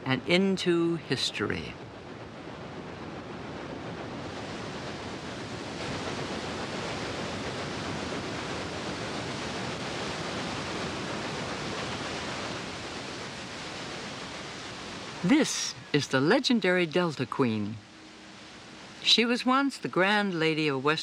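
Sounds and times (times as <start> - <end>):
water rushing from steamboat: 0.0 - 21.0.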